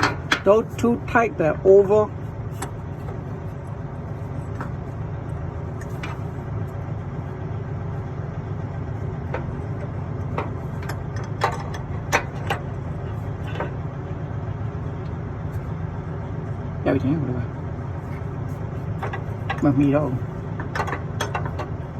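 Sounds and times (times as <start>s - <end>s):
vehicle engine idling: 0.0s - 21.9s.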